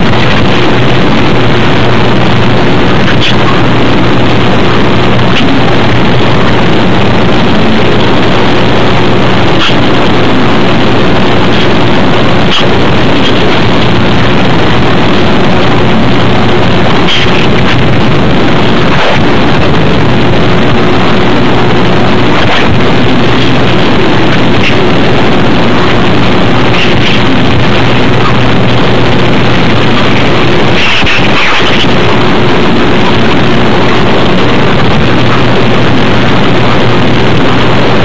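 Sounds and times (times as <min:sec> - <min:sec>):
loud steady rushing noise: 0:00.0 - 0:38.0
low hum: 0:00.0 - 0:38.0.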